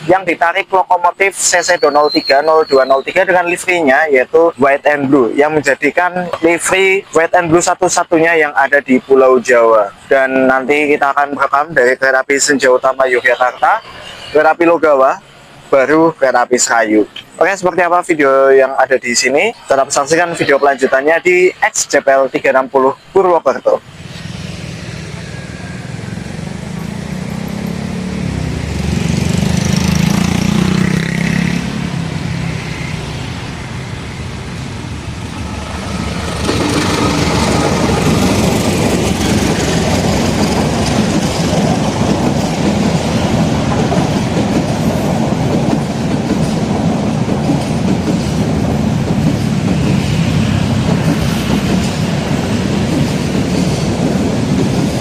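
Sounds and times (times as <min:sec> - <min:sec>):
carriages clattering on rails: 0:00.0 - 0:55.0
diesel locomotive passing: 0:00.0 - 0:55.0.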